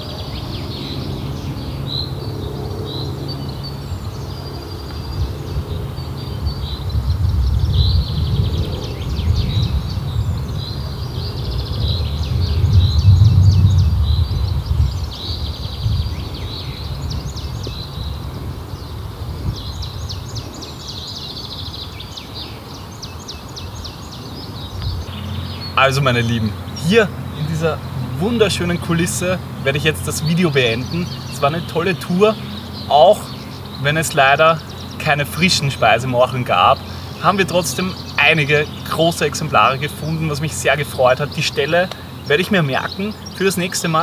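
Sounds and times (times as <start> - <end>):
songbirds singing: 0.0 - 44.0.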